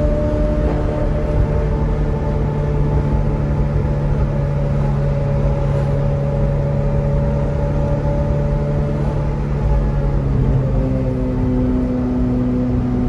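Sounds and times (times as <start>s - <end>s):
car engine drone: 0.0s - 13.0s
road rumble: 0.0s - 13.0s.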